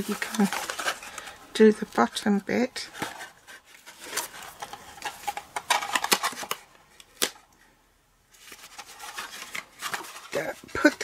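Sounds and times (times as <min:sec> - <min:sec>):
cardstock crackling and rustling: 0:00.0 - 0:07.4, 0:08.3 - 0:11.0.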